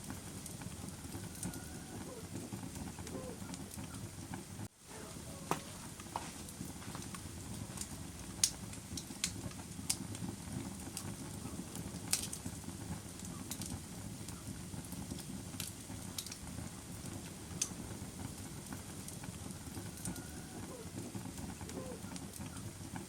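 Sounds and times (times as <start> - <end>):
fire crackling and popping: 0.0 - 23.0
low rumble of burning: 0.0 - 23.0.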